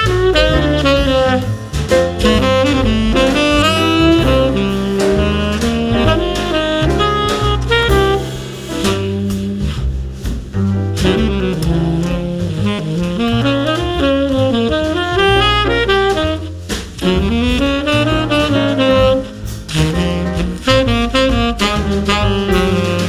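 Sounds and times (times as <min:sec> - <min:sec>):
tenor saxophone melody: 0:00.0 - 0:09.7, 0:11.0 - 0:23.0
double bass: 0:00.0 - 0:23.0
drums: 0:00.0 - 0:23.0
piano: 0:00.0 - 0:23.0.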